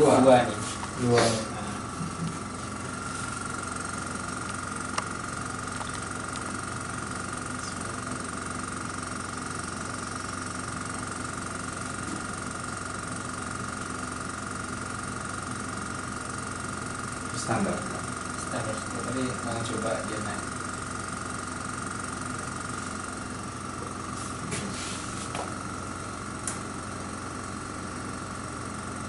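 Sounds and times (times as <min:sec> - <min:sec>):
air compressor humming: 0:00.0 - 0:29.0.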